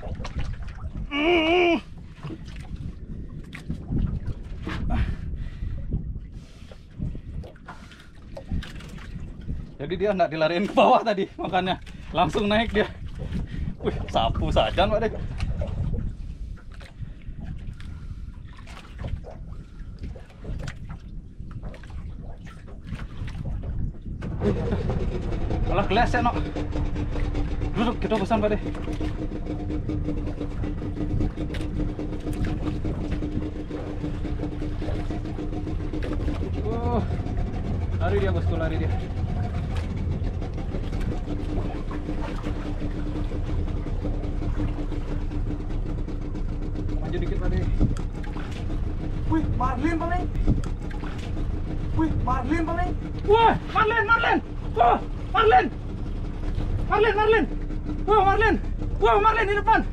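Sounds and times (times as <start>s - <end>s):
short knocks and splashes: 0.0s - 1.2s, 1.9s - 5.1s, 7.3s - 59.0s
water lapping against a boat hull: 0.0s - 59.9s
wind buffeting the microphone: 0.0s - 59.9s.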